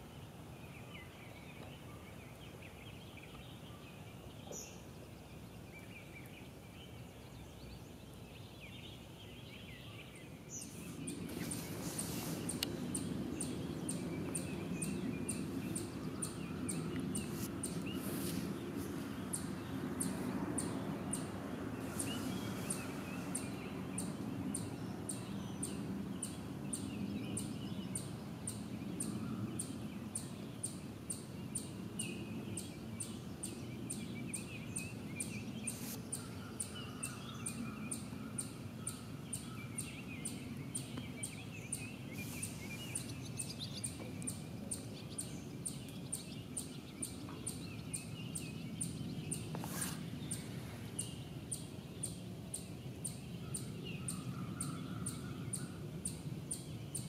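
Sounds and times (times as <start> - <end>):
birds calling and singing: 0.0 - 57.0.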